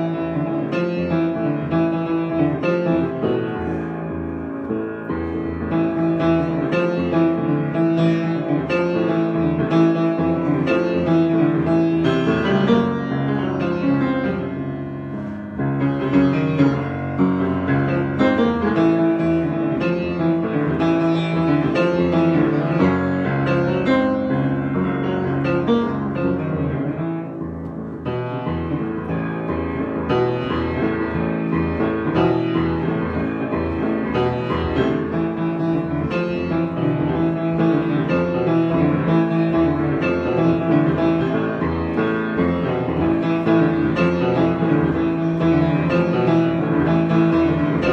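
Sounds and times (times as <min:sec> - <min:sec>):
piano playing: 0:00.0 - 0:47.9.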